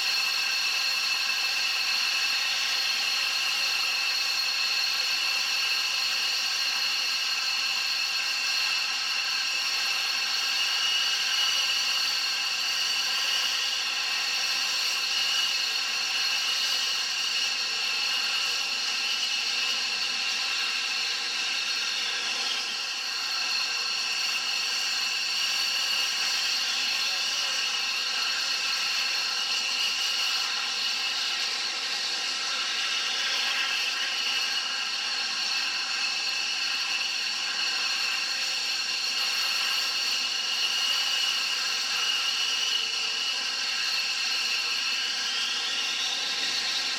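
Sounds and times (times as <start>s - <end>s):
steady mechanical whine: 0.0s - 46.9s.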